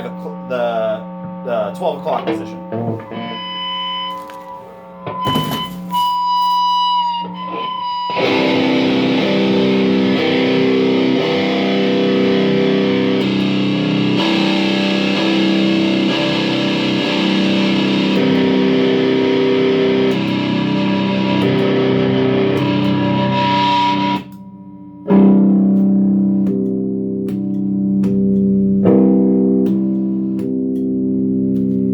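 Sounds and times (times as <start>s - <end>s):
distorted electric guitar chords: 0.0s - 31.9s
electric guitar single notes: 0.0s - 31.9s.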